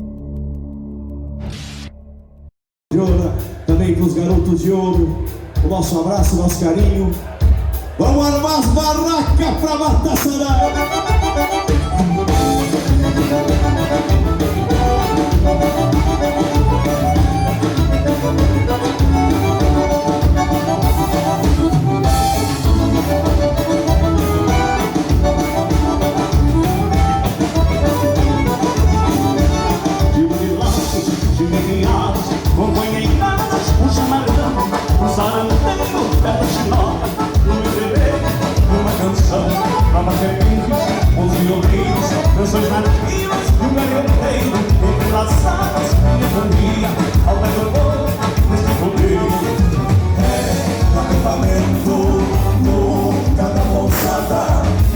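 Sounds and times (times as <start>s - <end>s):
accordion dance music: 2.9s - 54.9s
bass and drum beat: 2.9s - 54.9s.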